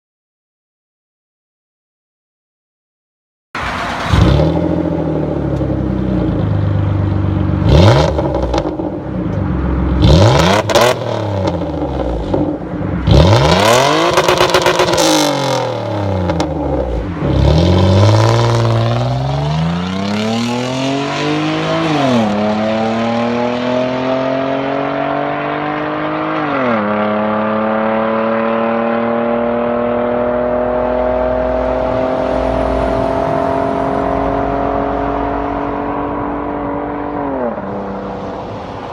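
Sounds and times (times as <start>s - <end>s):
loud car engine revving: 3.6s - 38.9s.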